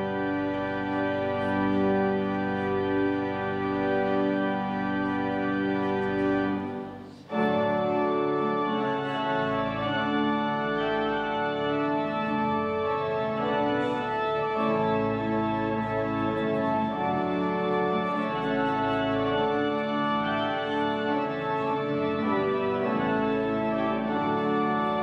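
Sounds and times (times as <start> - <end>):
organ playing long-held chords: 0.0 - 25.0.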